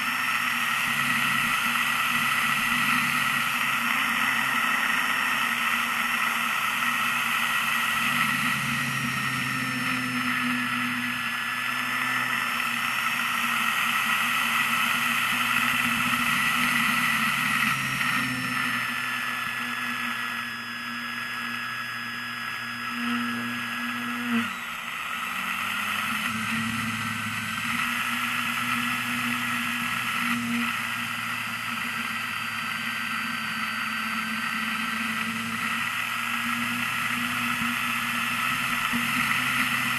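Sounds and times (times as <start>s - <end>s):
model airplane motor whine: 0.0s - 39.9s.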